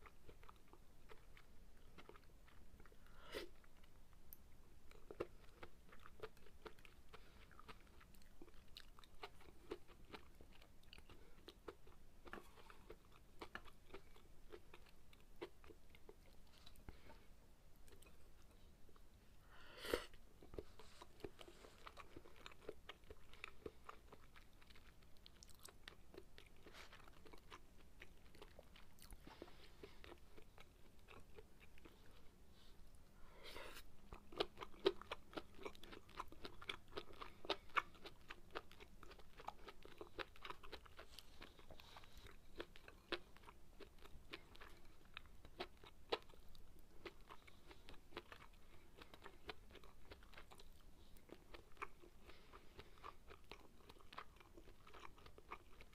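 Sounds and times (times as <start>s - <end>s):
wet chewing mouth sounds: 0.0s - 3.9s, 4.8s - 17.2s, 19.9s - 32.6s, 33.6s - 55.9s.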